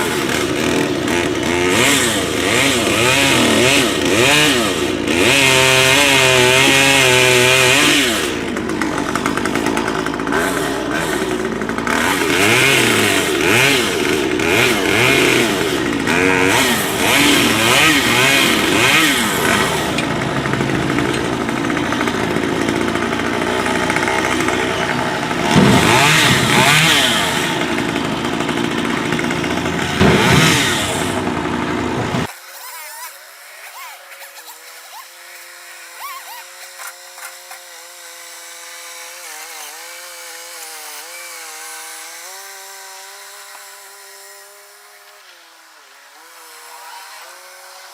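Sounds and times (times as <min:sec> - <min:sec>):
chainsaw cutting tree: 0:00.0 - 0:47.9.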